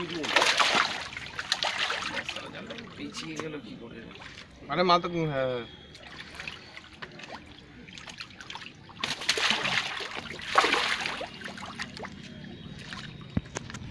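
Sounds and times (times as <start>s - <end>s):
fish splashing in water: 0.0s - 4.6s, 5.8s - 13.4s.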